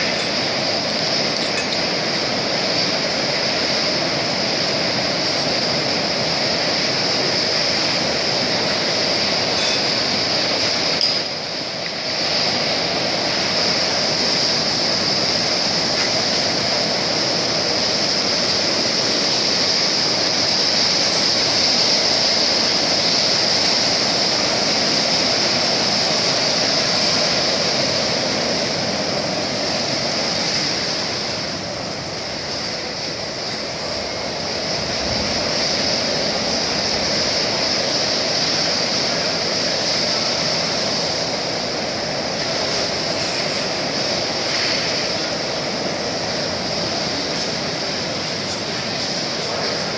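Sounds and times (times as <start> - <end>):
welding arc crackling and hissing: 0.0 - 49.9.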